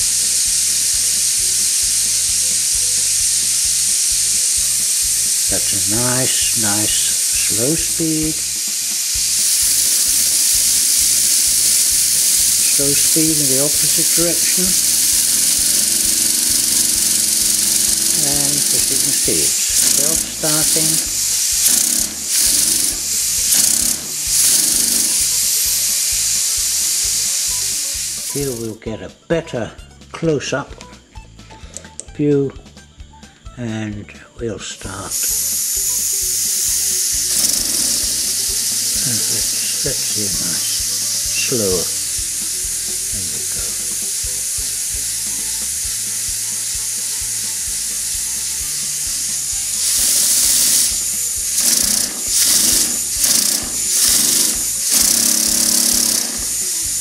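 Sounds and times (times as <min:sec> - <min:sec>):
air hissing: 0:00.0 - 0:28.8, 0:34.9 - 0:57.0
model steam engine chuffing: 0:00.0 - 0:28.8, 0:35.1 - 0:57.0.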